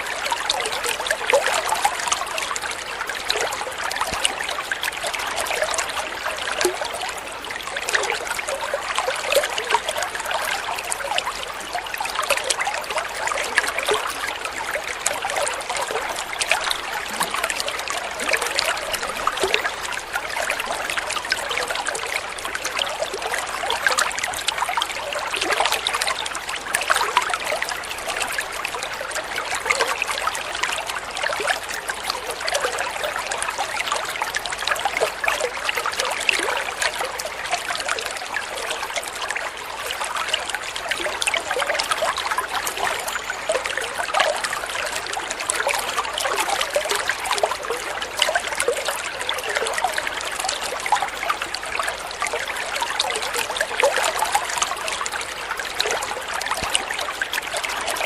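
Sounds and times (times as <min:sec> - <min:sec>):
water flowing and trickling: 0:00.0 - 0:58.0.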